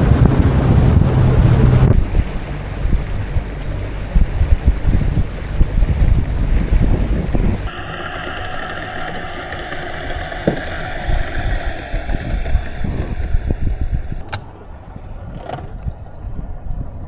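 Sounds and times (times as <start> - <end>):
engine running steadily: 0.0 - 14.5
wind buffeting microphone: 0.0 - 17.0.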